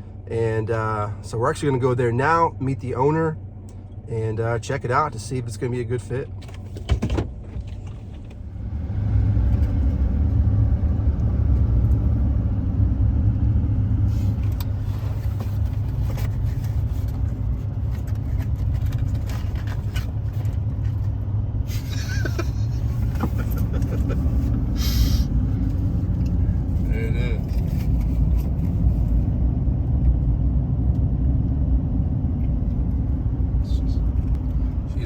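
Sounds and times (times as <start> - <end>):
vehicle cabin engine and road rumble: 0.0 - 35.0.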